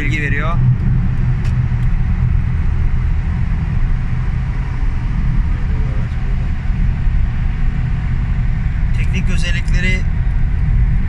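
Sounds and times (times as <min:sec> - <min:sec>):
car driving through tunnel: 0:00.0 - 0:11.0.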